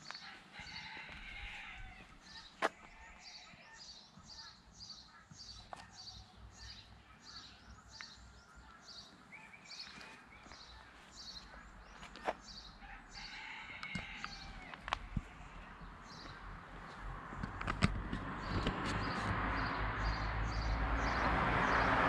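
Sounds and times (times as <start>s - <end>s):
rural background noise: 0.0s - 22.0s.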